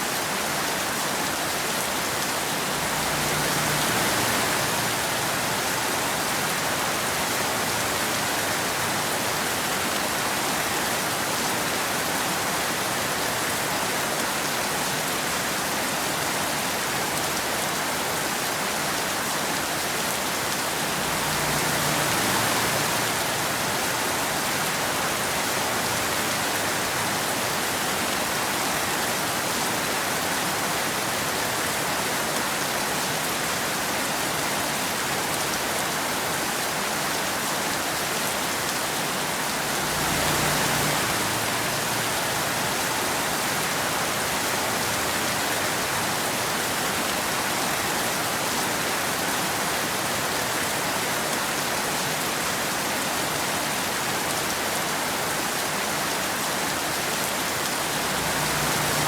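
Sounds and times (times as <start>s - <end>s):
rain pattering on pavement: 0.1s - 59.0s.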